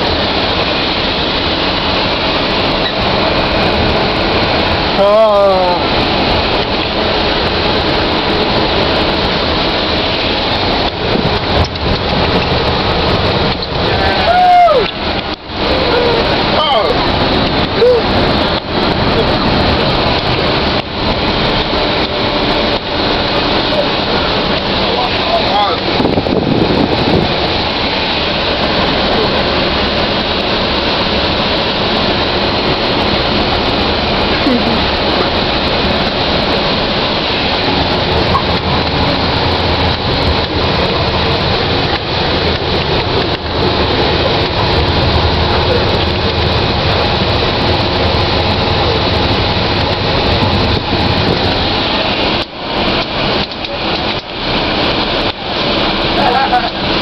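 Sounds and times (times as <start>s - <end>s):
bus road and engine noise: 0.0s - 57.0s.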